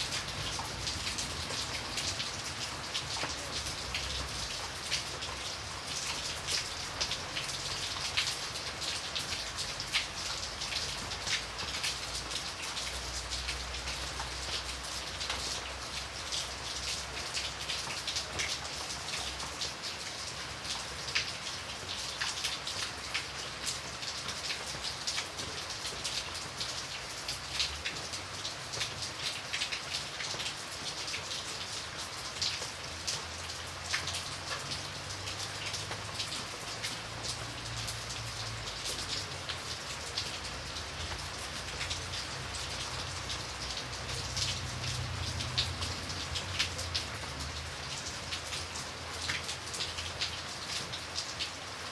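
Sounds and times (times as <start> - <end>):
rain hiss: 0.0 - 51.9
raindrops hitting a window: 0.0 - 51.9.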